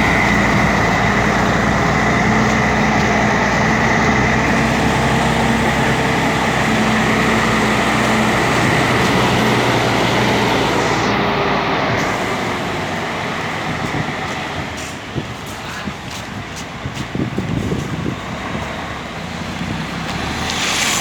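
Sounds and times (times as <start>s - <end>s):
diesel coach engine running: 0.0s - 21.0s.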